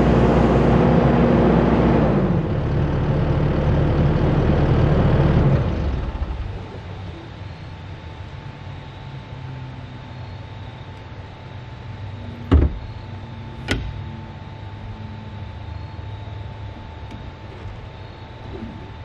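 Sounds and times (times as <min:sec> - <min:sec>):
engine running with whine: 0:00.0 - 0:19.0.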